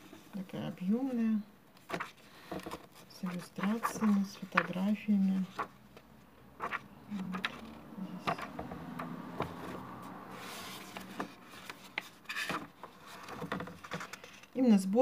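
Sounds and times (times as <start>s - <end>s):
book pages turning: 1.7s - 14.5s.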